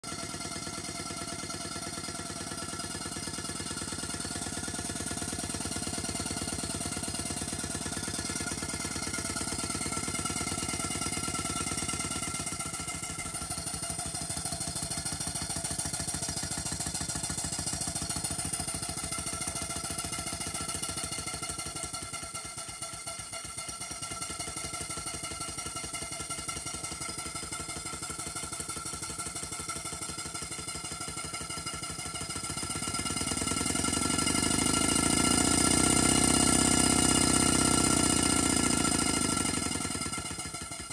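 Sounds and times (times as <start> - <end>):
model steam engine exhaust beat: 0.0 - 40.9.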